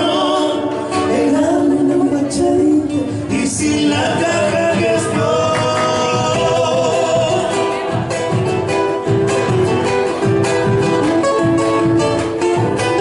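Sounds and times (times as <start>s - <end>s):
plucked guitars: 0.0s - 13.0s.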